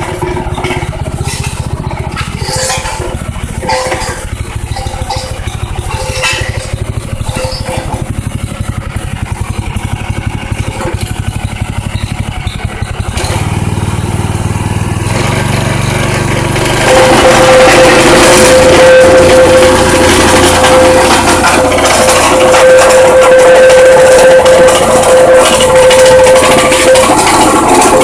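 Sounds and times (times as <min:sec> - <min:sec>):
plate compactor engine running: 0:00.0 - 0:28.0.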